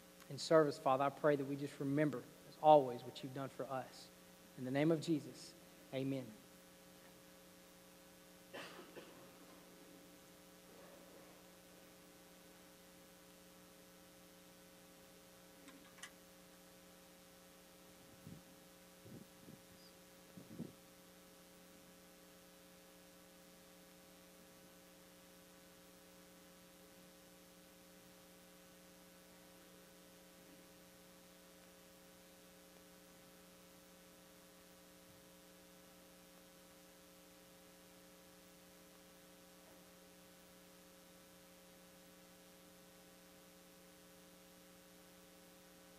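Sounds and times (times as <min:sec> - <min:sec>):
electrical hum: 0:00.0 - 0:45.9.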